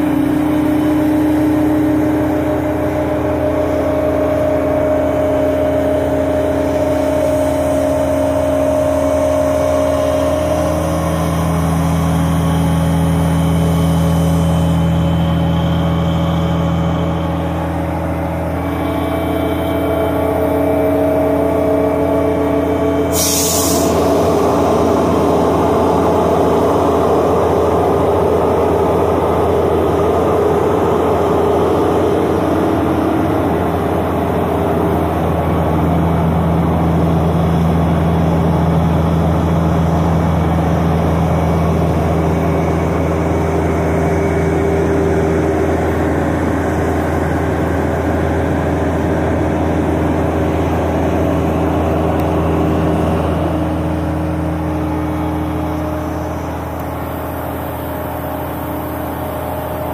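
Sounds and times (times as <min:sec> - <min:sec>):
crane engine running: 0:00.0 - 0:59.9.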